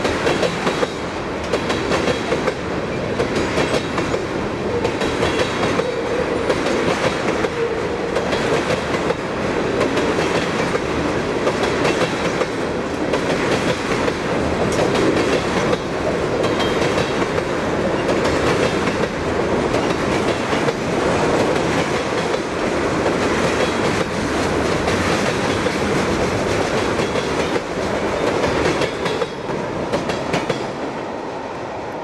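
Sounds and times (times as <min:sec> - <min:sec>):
clickety-clack over rail joints: 0:00.0 - 0:32.0
train wheels rumbling on rail: 0:00.0 - 0:32.0.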